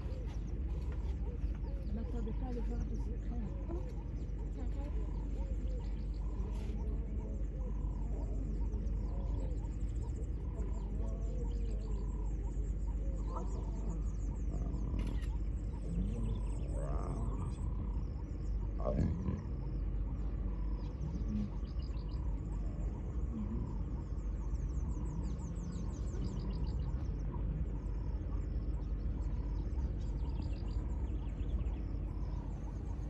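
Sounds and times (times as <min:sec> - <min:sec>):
low rumble: 0:00.0 - 0:33.0.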